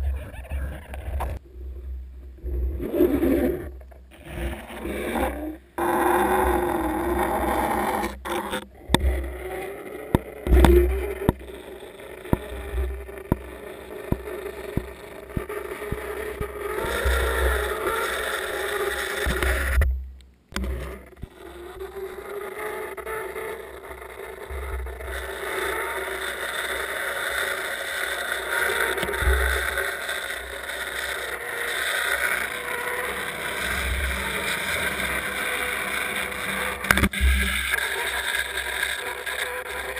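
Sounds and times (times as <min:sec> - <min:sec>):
faint wavering drone: 0:00.0 - 0:19.8, 0:20.5 - 0:39.9.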